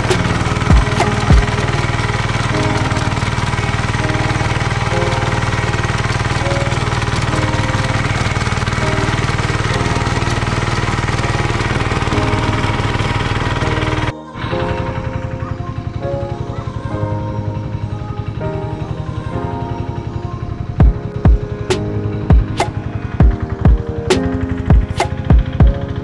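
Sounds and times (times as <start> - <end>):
diesel tractor engine running: 0.0 - 26.0
music: 0.0 - 26.0
tiller churning soil: 0.0 - 26.0.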